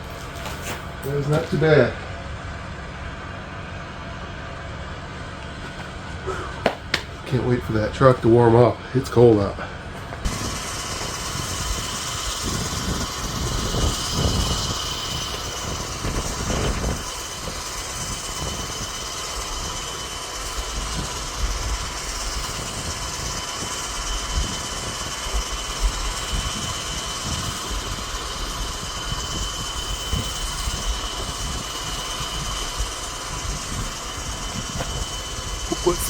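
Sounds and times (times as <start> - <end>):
diesel engine idling: 0.0 - 36.0
wind buffeting microphone: 4.9 - 36.0.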